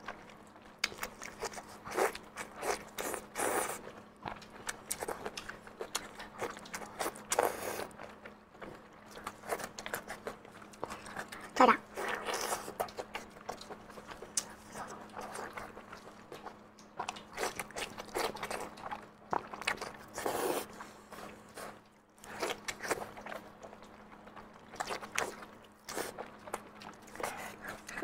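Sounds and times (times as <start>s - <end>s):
faint steady hum: 0.0s - 28.0s
wet chewing and mouth sounds: 0.0s - 28.0s.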